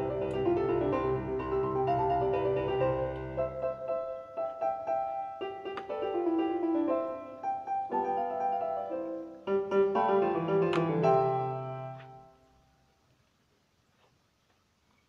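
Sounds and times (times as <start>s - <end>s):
solo piano music: 0.0s - 12.7s.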